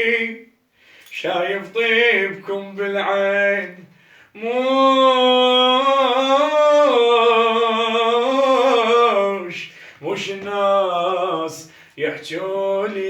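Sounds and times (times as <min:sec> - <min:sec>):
man singing a chant: 0:00.0 - 0:13.0.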